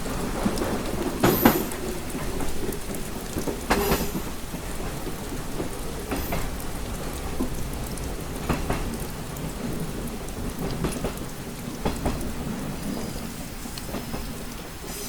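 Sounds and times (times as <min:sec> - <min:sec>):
rain on a window pane: 0:00.0 - 0:15.0.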